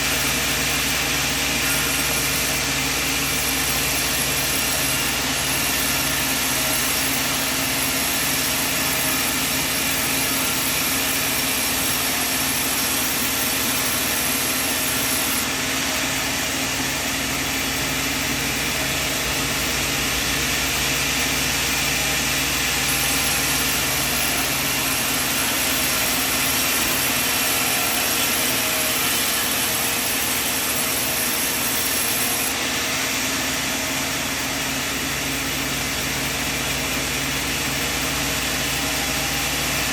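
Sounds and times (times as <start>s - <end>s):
high machine whine: 0.0s - 39.9s
sawmill machine humming: 0.0s - 39.9s.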